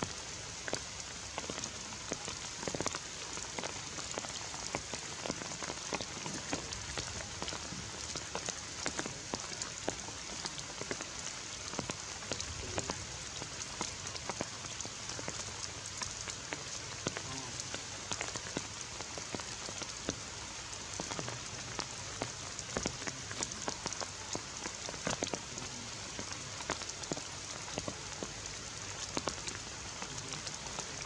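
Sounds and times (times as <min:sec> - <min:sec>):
rain drops pattering: 0:00.0 - 0:31.0.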